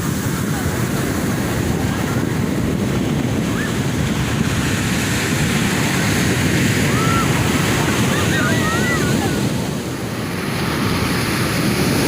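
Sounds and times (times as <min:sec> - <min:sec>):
heavy surf rumbling: 0:00.0 - 0:12.0
wind buffeting microphone: 0:00.0 - 0:12.0.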